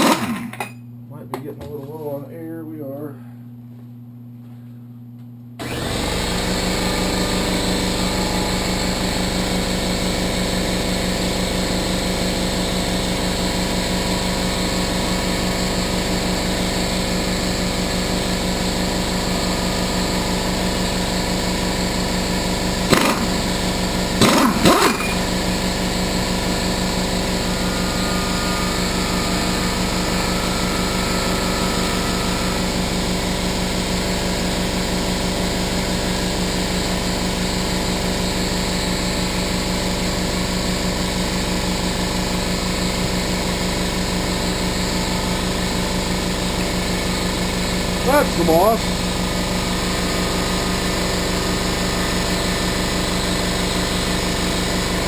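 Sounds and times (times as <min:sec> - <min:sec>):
air compressor humming: 0:00.0 - 0:55.0.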